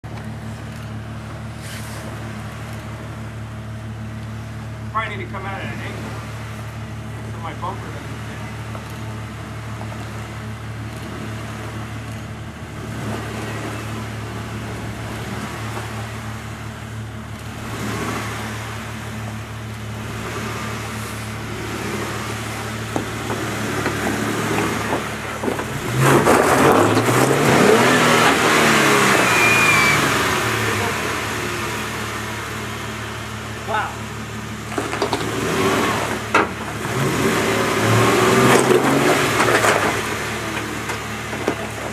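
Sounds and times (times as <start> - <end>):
car engine revving: 1.5 - 41.9.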